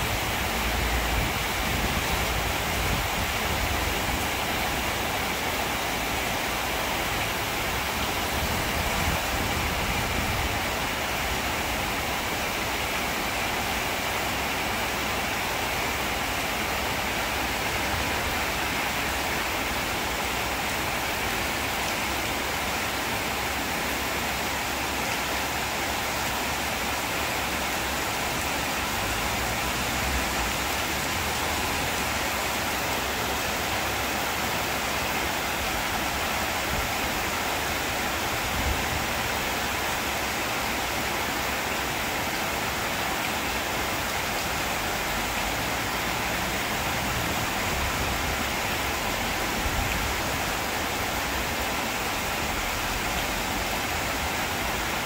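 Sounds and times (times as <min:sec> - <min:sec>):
rain on leaves and metal roof: 0:00.0 - 0:55.0.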